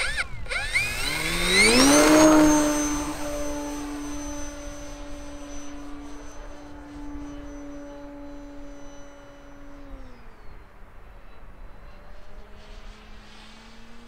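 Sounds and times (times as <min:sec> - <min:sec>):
model airplane motor whine: 0:00.0 - 0:14.0.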